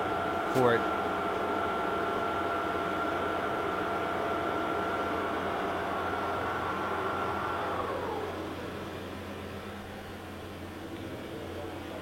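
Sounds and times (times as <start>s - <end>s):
lathe motor whine and hum: 0.0s - 12.0s.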